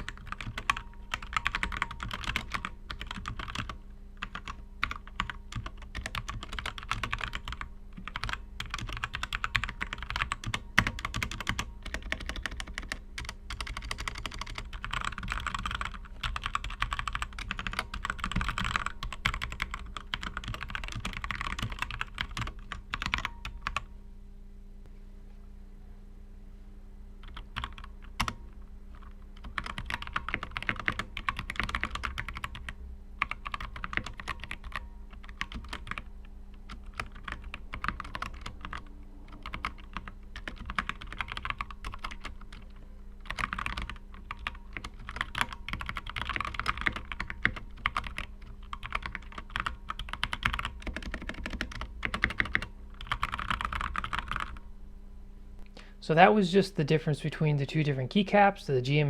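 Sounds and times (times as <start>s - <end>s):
mechanical keyboard clacking: 0.0s - 23.8s, 29.0s - 36.0s, 36.7s - 42.7s, 43.3s - 54.6s.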